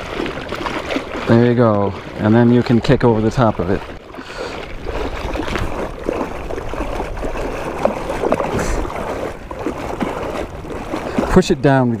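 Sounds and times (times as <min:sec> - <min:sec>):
legs splashing in weedy water: 0:00.0 - 0:12.0.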